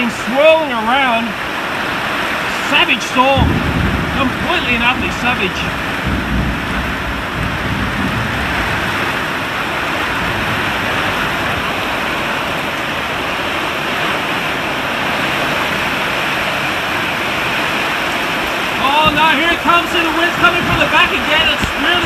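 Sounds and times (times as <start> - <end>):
heavy rain falling: 0.0 - 22.0
wind buffeting: 1.3 - 22.0.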